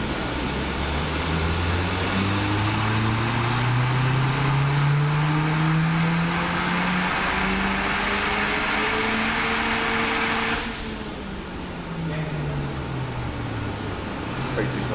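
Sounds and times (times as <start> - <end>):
car engine revving under load: 0.0 - 14.9.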